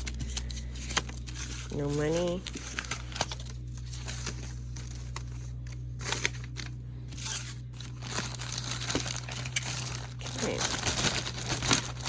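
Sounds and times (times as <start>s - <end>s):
paper and bag rustling: 0.0s - 12.0s
steady low hum: 0.0s - 12.0s.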